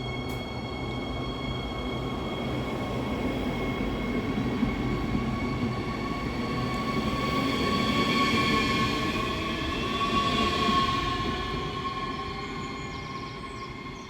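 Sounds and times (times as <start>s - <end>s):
electric train drive whine: 0.0s - 14.0s
wheels rumbling on rail: 0.0s - 14.0s.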